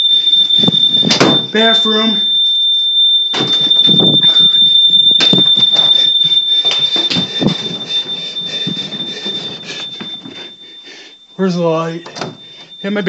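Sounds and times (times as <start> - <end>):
smoke alarm tone: 0.0 - 13.0.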